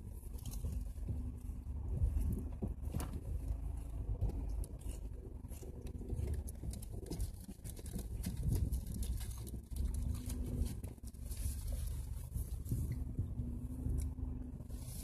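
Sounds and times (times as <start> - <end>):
low engine rumble: 0.0 - 15.0
tires crunching through snow: 0.0 - 15.0.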